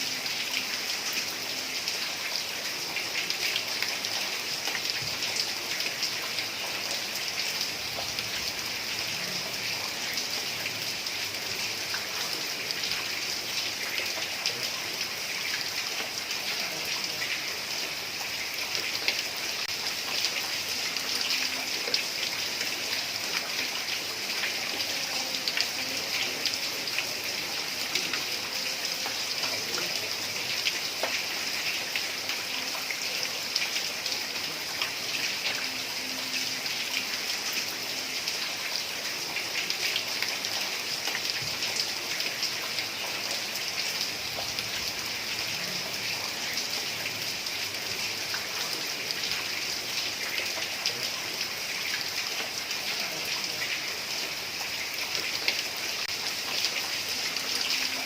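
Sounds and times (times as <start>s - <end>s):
heavy rain on a tiled roof: 0.0s - 58.0s.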